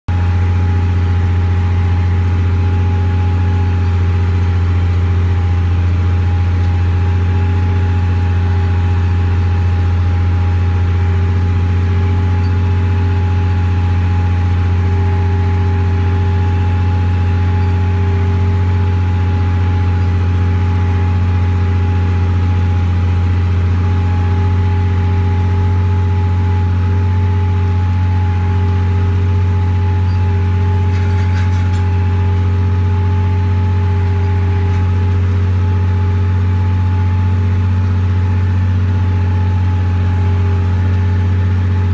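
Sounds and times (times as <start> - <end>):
tractor engine droning: 0.0 - 41.9.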